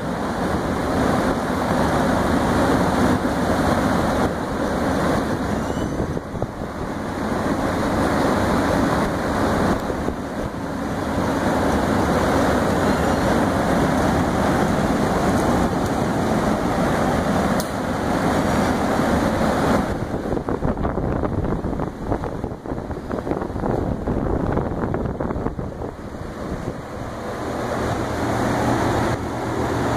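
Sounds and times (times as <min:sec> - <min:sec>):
airflow buffeting microphone: 0:00.0 - 0:29.9
fan blowing air: 0:00.0 - 0:29.9.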